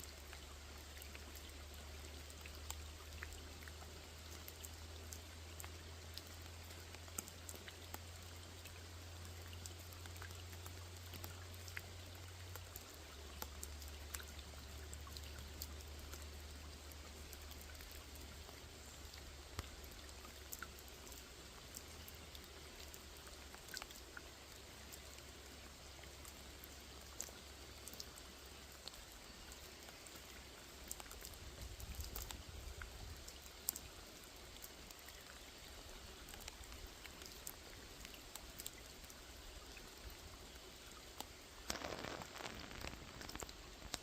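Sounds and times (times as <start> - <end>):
rain falling on lake: 0.0 - 44.0
raindrops ticking: 0.0 - 44.0.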